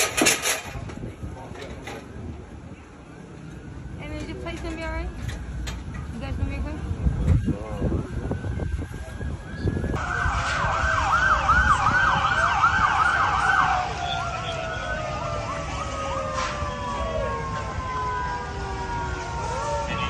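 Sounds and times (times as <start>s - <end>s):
emergency sirens yelping and wailing: 0.0s - 20.0s.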